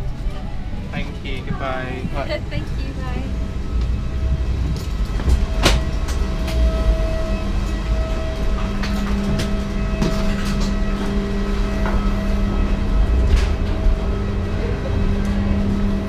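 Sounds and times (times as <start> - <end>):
low machine hum: 0.0 - 16.0
footsteps: 1.0 - 15.8.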